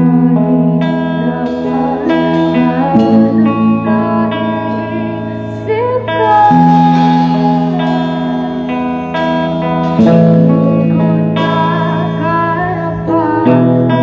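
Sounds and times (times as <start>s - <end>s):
live band playing: 0.0s - 14.0s
woman singing: 0.0s - 14.0s
cymbal crashes: 0.8s - 12.9s.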